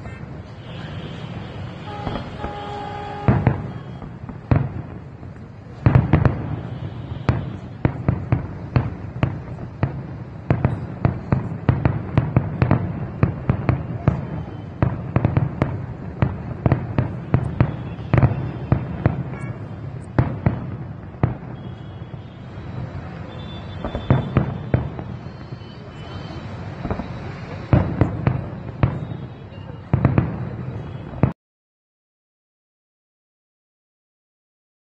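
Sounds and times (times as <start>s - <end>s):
fireworks bangs and pops: 0.0s - 31.4s.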